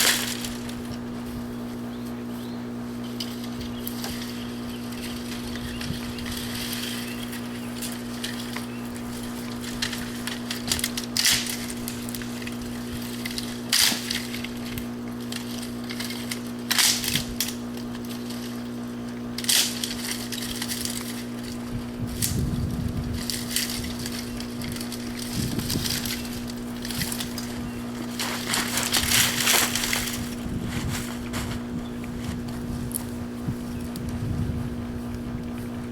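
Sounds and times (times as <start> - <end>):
branches crunching and cracking: 0.0 - 35.9
steady low hum: 0.0 - 35.9.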